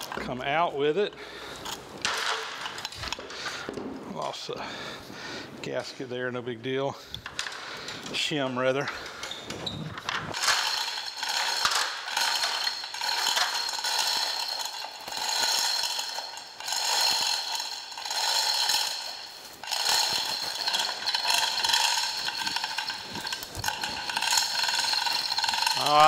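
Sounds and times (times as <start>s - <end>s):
hoist chain and ratchet clattering: 0.0s - 3.3s, 7.0s - 26.0s.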